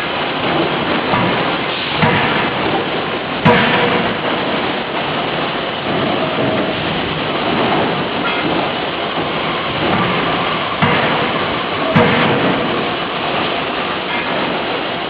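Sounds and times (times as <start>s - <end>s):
forging hammer blow: 0.0s - 14.8s
machinery running din: 0.0s - 15.0s.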